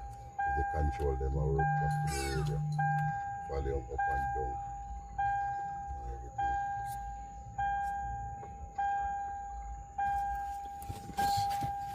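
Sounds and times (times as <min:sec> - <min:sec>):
car warning chime dinging: 0:00.0 - 0:11.9.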